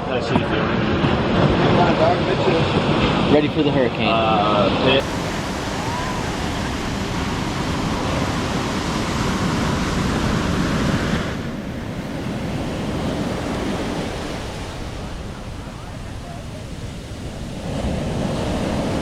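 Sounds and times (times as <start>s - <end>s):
ocean surf washing: 0.0s - 19.0s
wind on microphone: 0.0s - 19.0s.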